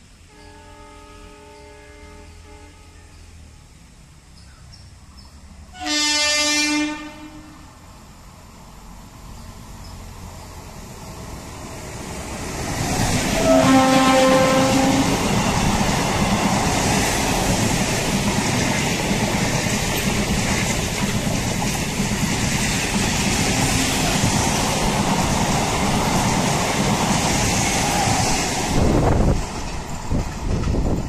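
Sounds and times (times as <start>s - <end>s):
train wheels rushing on rail: 5.6s - 31.0s.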